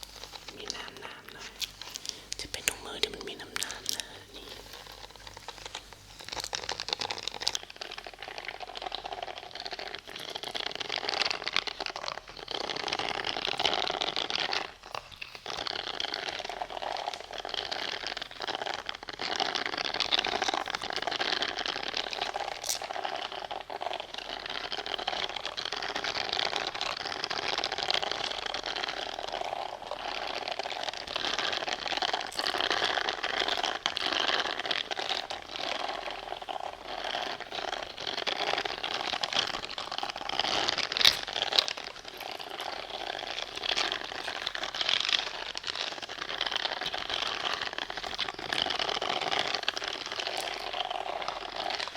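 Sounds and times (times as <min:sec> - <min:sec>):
scratching and crinkling rustle: 0:00.0 - 0:51.9.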